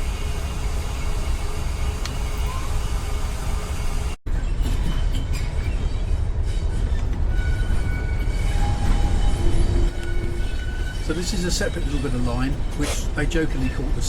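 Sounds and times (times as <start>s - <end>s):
locomotive rumbling: 0.0s - 14.0s.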